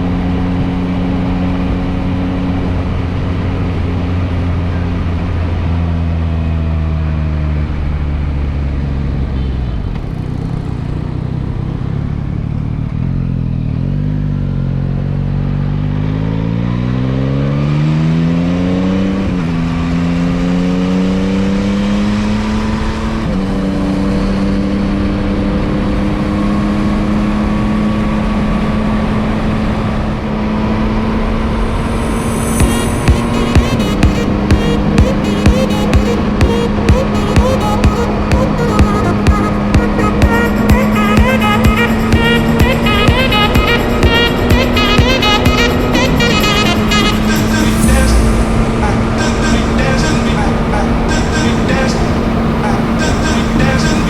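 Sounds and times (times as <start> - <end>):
motorcycle engine revving: 6.4 - 54.0.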